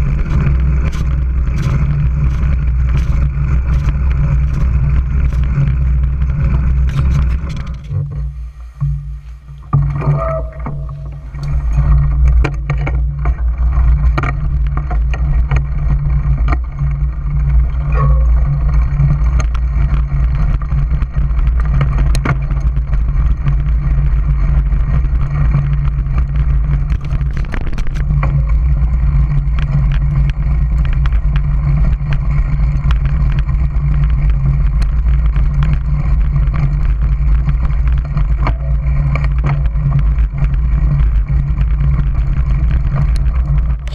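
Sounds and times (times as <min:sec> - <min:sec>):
mountain bike clicks and rattles: 0:00.0 - 0:43.9
wind rumbling on microphone: 0:00.0 - 0:43.9.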